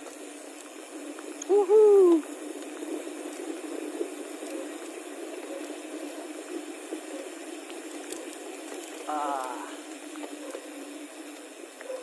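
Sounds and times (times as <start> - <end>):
bicycle tyres rolling on road: 0.0 - 12.0.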